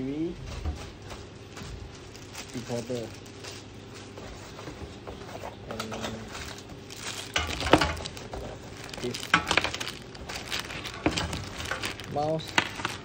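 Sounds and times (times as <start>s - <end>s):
plastic bags crinkling: 0.1s - 5.0s, 5.8s - 13.0s.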